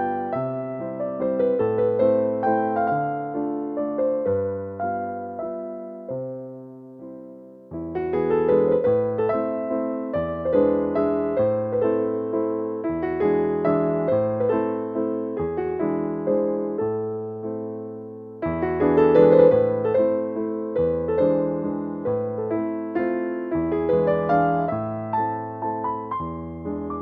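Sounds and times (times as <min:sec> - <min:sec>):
gentle solo piano piece: 0:00.0 - 0:27.0.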